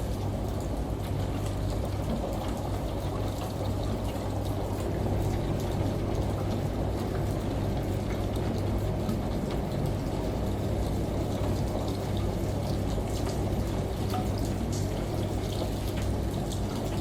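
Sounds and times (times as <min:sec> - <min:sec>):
washing machine hum: 0:00.0 - 0:17.0
rushing water: 0:00.2 - 0:17.0.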